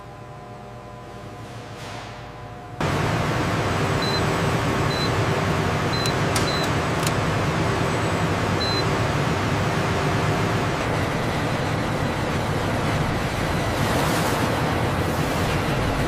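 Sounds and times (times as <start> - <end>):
industrial machinery hum: 0.0 - 16.0.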